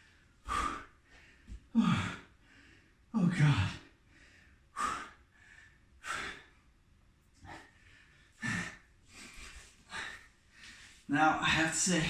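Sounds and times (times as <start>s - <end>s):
man breathing heavily: 0.0s - 12.0s.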